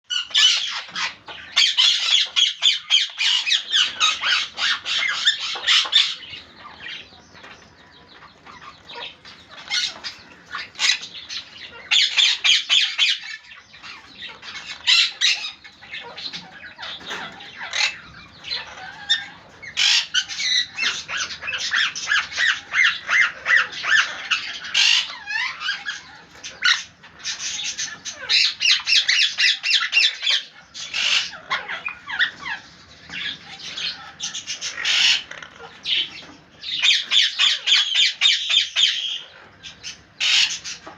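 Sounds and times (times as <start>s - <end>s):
parrots squawking and screeching: 0.0s - 40.9s.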